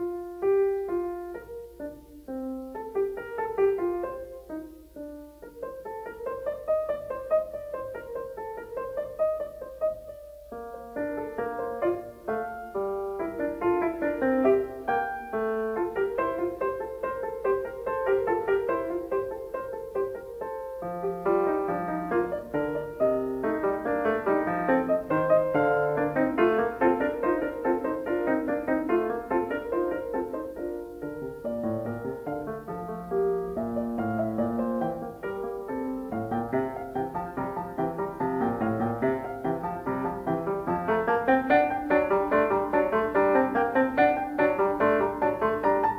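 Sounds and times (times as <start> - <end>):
solo piano melody: 0.0 - 45.9.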